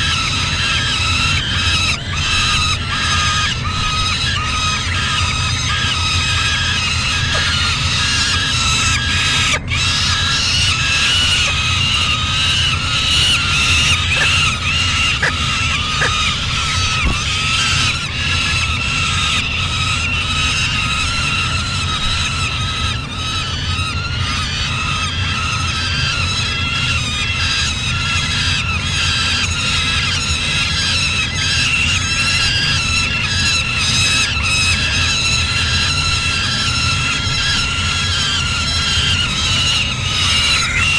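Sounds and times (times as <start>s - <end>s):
steady low hum: 0.0s - 40.9s
young falcons squealing cries: 0.0s - 40.9s.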